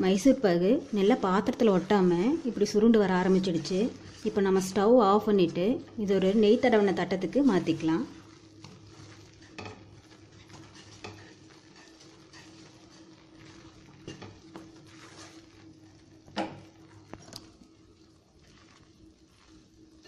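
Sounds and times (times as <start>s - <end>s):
wooden spatula scraping pan: 0.0s - 17.6s.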